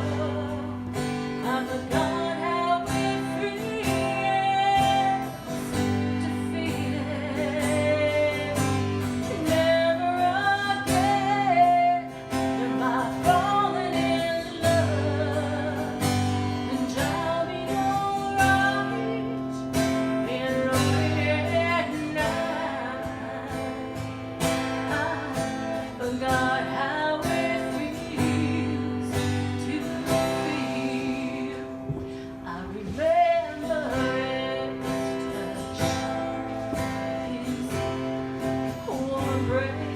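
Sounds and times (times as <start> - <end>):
strummed acoustic guitar: 0.0 - 39.9
woman singing: 0.0 - 39.9.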